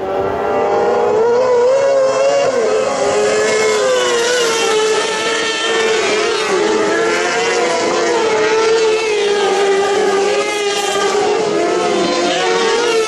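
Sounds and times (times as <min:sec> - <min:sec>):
racing engines revving: 0:00.0 - 0:13.0.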